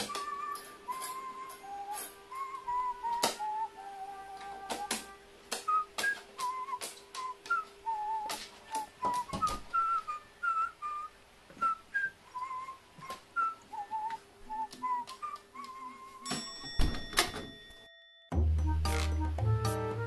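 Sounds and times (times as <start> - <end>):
whistled melody: 0.0 - 17.0, 18.3 - 20.0.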